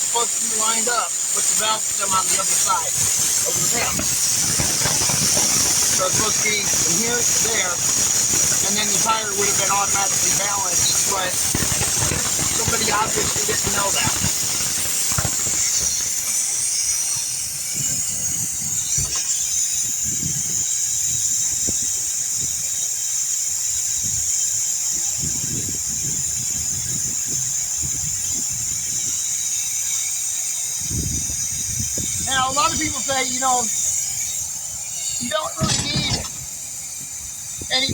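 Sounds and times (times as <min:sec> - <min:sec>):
air hissing from tire valve: 0:00.0 - 0:37.9.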